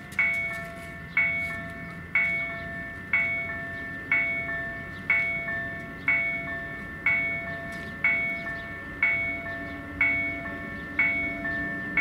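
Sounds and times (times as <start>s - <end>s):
level crossing warning bell ringing: 0.0s - 12.0s.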